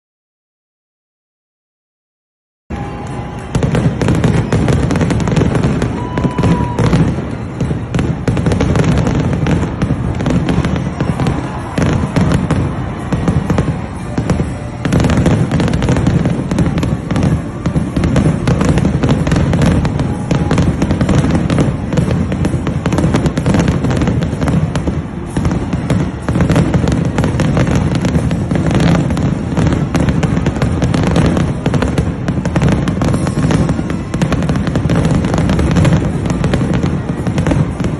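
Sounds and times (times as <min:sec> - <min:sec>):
fireworks bursting and crackling: 0:02.7 - 0:37.9.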